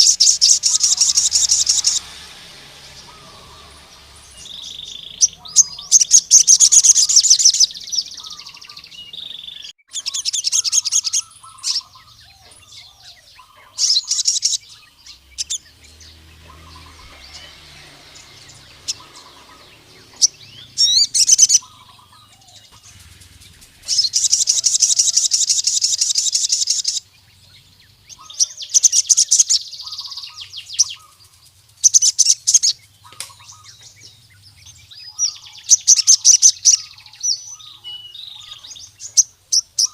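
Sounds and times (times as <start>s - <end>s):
sunbird singing trilled phrases: 0.0s - 39.9s.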